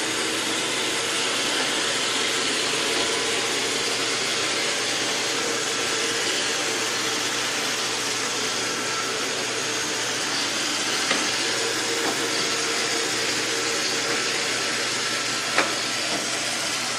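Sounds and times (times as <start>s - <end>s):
robot vacuum whirring: 0.0s - 16.9s.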